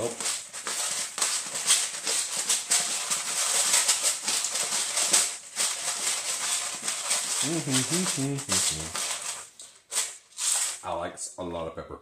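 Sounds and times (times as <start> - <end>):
pepper grinder cracking peppercorns: 0.0 - 10.8.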